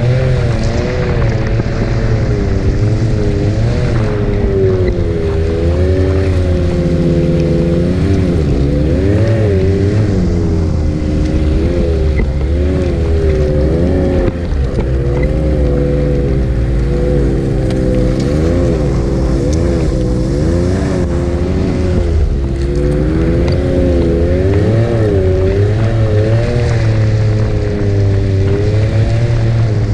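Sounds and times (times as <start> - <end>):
snowmobile engine revving: 0.0 - 29.9.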